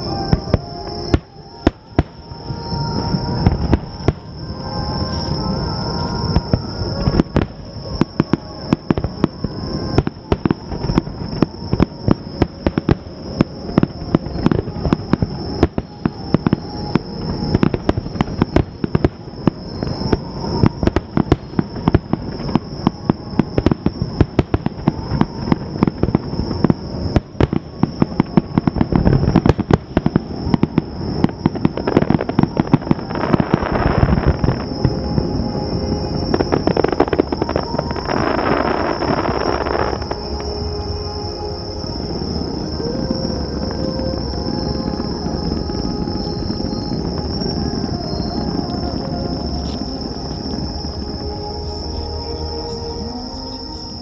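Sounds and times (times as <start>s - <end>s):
continuous low rumble: 0.0s - 54.0s
fireworks bursting: 0.0s - 54.0s
fireworks crackling: 0.0s - 54.0s.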